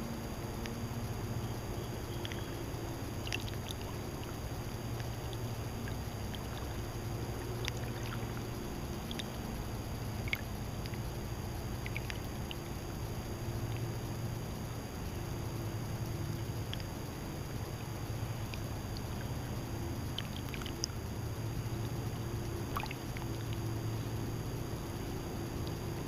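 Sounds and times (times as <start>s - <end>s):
light splashes and drips: 0.4s - 26.0s.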